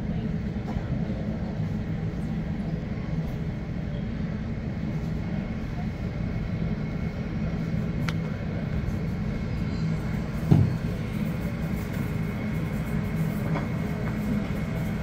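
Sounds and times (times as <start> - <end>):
muffled jet engine rumble: 0.0 - 15.0.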